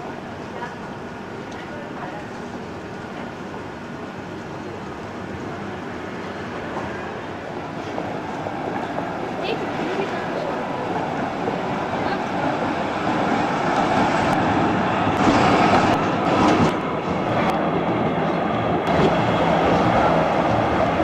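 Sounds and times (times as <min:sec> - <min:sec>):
tram passing: 0:00.0 - 0:21.0.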